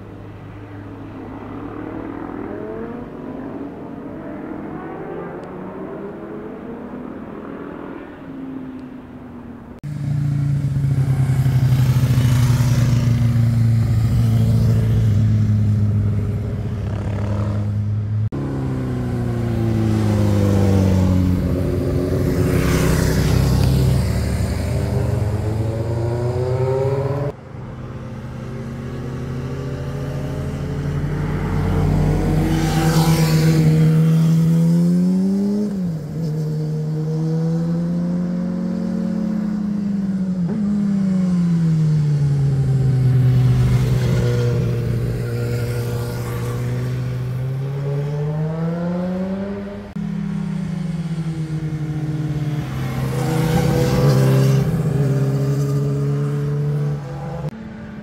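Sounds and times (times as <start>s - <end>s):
motorcycle engines accelerating: 0.0s - 58.0s.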